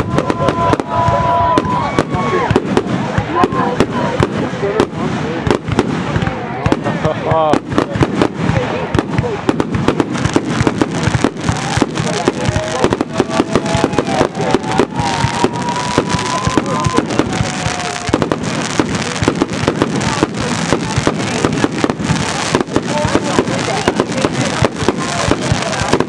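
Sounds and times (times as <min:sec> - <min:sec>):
fireworks bursting with bangs and crackles: 0:00.0 - 0:26.0.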